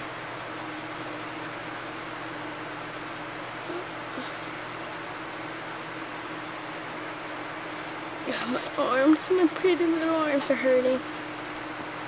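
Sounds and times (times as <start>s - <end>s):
scratchy scribbling on paper: 0.0s - 5.2s, 5.9s - 10.4s.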